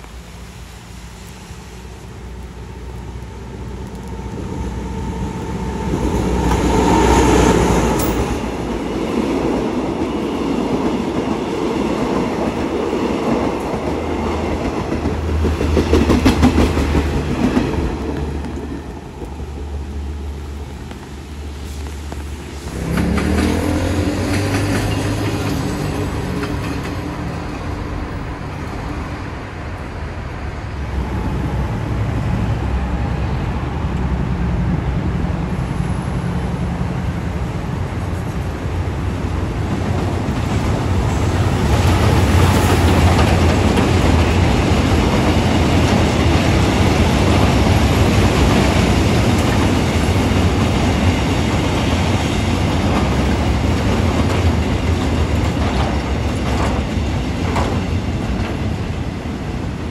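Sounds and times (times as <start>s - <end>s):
train running: 0.0s - 59.9s.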